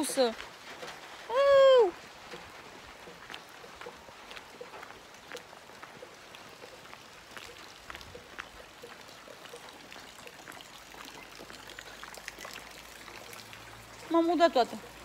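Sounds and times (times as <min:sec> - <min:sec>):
light rain falling: 0:00.0 - 0:15.0
raindrops ticking close by: 0:00.0 - 0:15.0.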